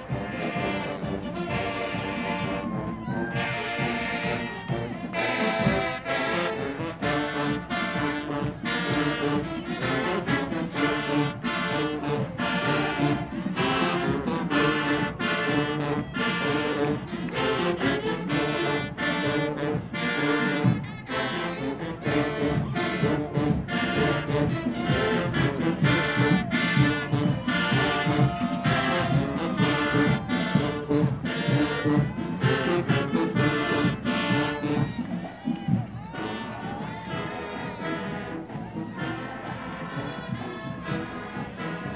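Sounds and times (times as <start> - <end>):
brass marching band: 0.0 - 41.9
drums keeping a steady beat: 0.0 - 41.9.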